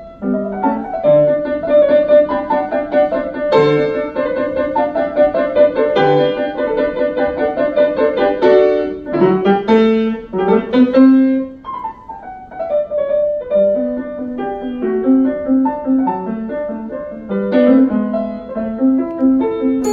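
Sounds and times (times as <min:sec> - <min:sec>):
solo classical piano: 0:00.0 - 0:19.9.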